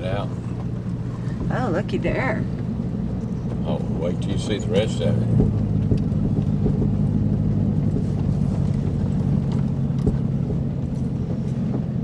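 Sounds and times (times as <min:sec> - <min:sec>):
car cabin low hum: 0:00.0 - 0:12.0.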